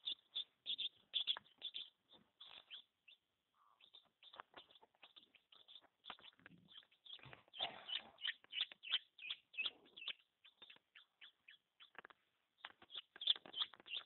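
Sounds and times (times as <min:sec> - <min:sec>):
chick peeping: 0:00.0 - 0:14.0.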